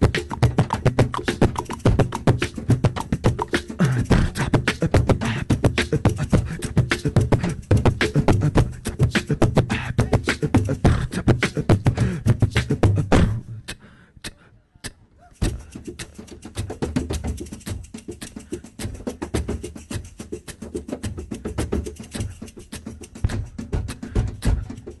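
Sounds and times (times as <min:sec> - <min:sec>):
hand percussion on car body: 0:00.0 - 0:13.4, 0:15.4 - 0:25.0.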